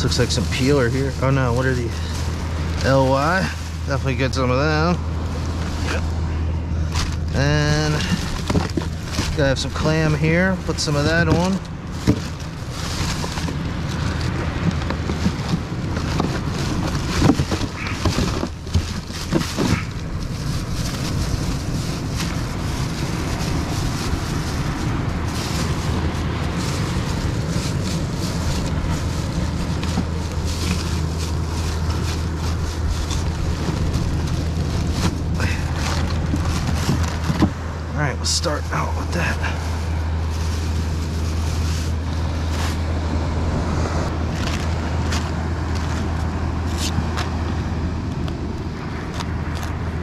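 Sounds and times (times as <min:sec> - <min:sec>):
plastic bags crinkling: 0:00.0 - 0:04.8, 0:06.9 - 0:37.6, 0:38.3 - 0:42.9.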